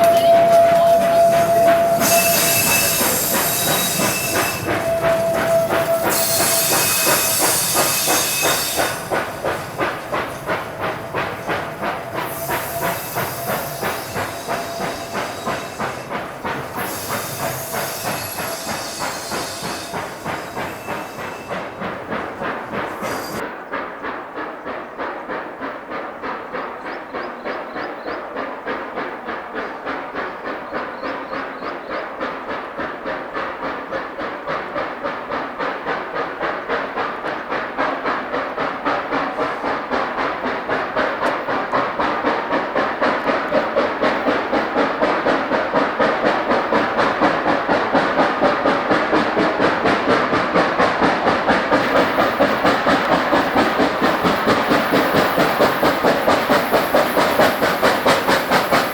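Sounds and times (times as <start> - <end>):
steam locomotive chuffing: 0.0 - 58.9.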